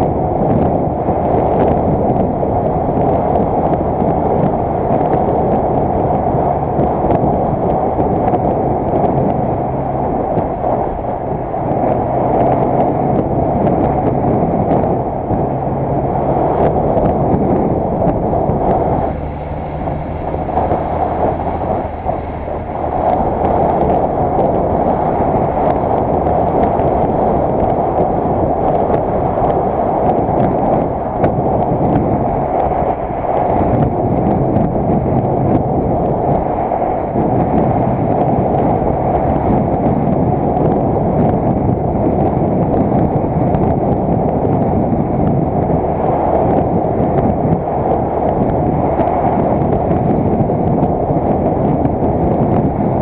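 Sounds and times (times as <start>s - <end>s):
motorcycle engine drone: 0.0s - 53.0s
wind rushing over microphone: 0.0s - 53.0s.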